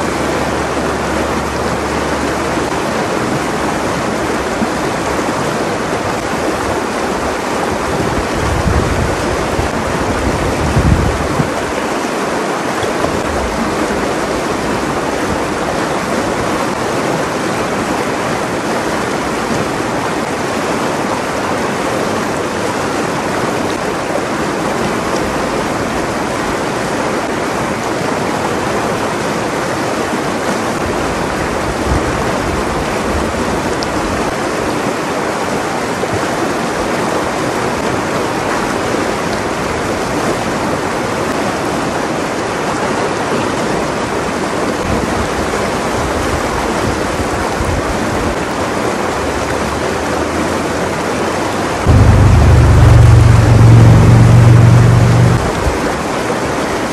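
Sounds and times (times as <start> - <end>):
river water rushing over rocks: 0.0 - 56.9.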